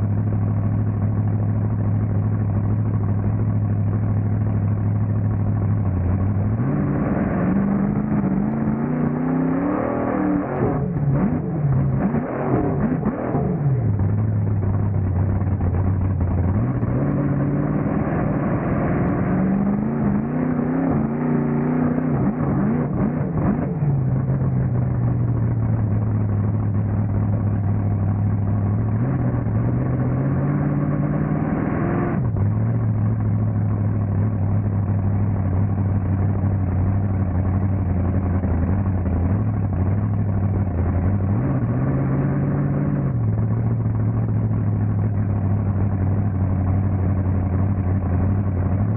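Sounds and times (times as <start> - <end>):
truck engine idling and revving: 0.0 - 48.9.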